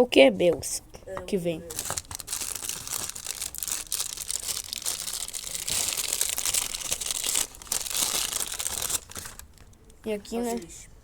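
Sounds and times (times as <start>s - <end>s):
plastic packaging crinkling and tearing: 1.7s - 10.7s.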